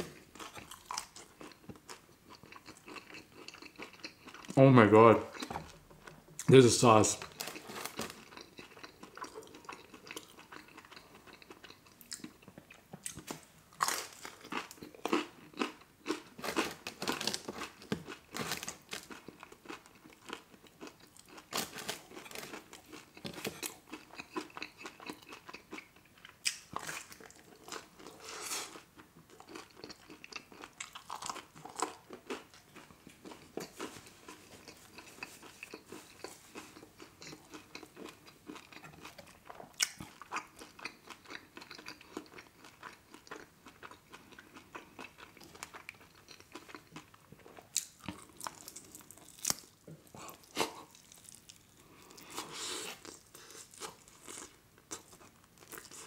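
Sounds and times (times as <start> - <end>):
chewing and biting pizza: 0.0 - 4.6, 7.2 - 56.0.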